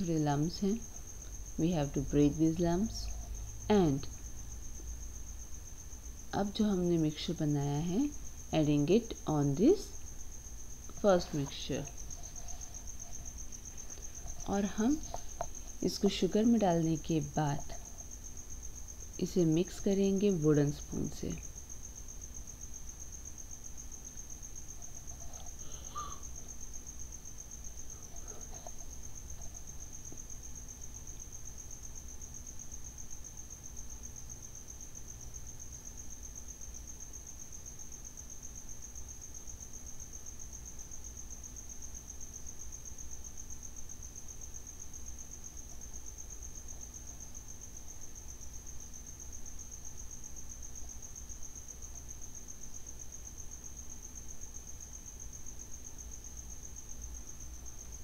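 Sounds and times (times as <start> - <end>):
cricket trilling: 0.0 - 58.0
low steady hum: 0.0 - 58.0.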